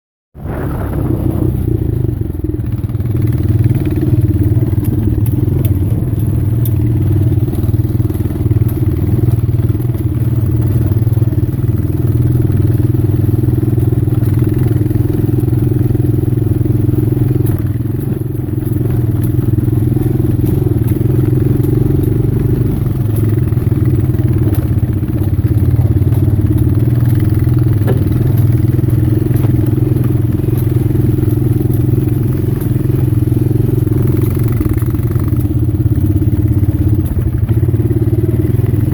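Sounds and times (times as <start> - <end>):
vehicle engine droning: 0.4 - 38.9.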